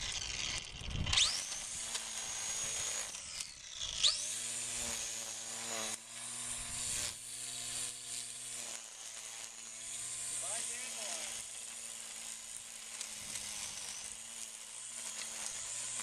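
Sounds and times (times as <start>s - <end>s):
electric string trimmer whining: 0.0s - 16.0s.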